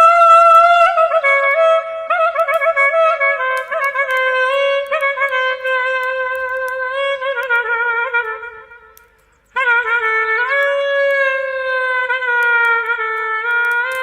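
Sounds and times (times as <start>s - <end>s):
clarinet melody: 0.0s - 14.0s.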